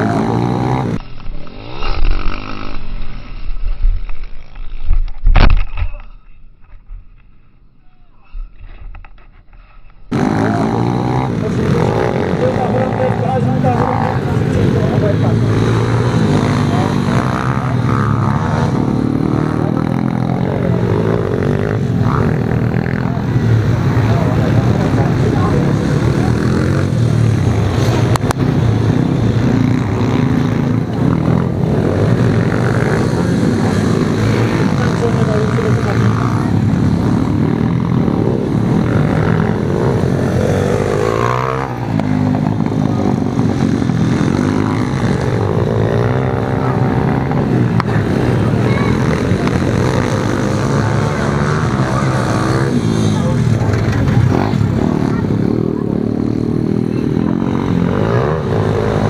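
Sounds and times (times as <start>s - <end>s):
pit bike engines revving: 0.0s - 7.2s, 8.6s - 59.0s.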